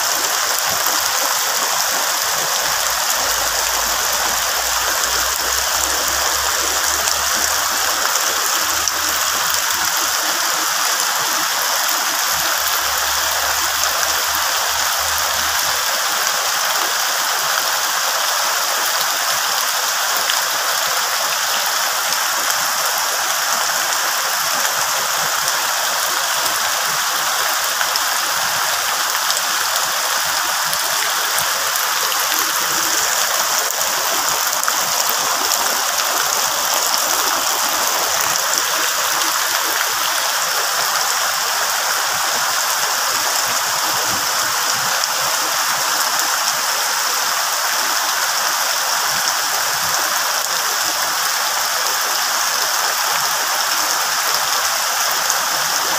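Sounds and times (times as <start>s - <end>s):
heavy rain on leaves: 0.0s - 55.9s.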